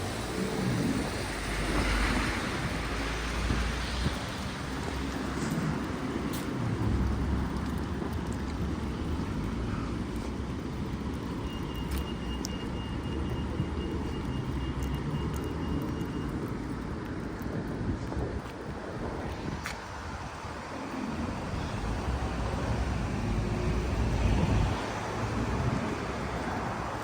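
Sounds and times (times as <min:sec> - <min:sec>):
passing cars rumbling: 0:00.0 - 0:27.0.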